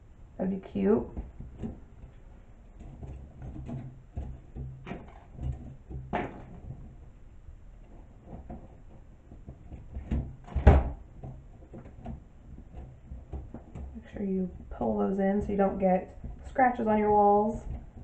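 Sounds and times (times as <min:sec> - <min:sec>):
wooden clothespins knocking and rattling: 0:01.2 - 0:07.2, 0:07.8 - 0:18.0.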